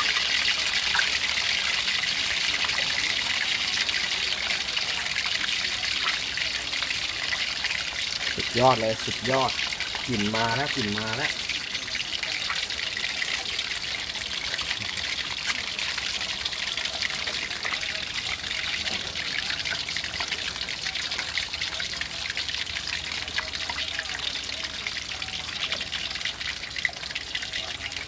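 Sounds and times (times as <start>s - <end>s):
fish sizzling in hot oil: 0.0s - 28.0s.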